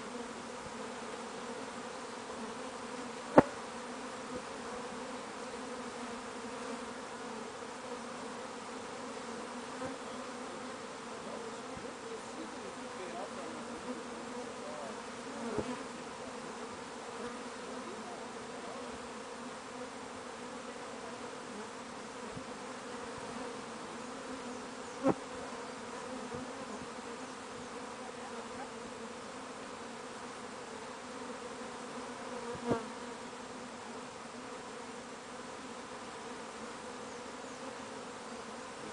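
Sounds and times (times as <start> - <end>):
bee swarm buzzing: 0.0 - 38.9.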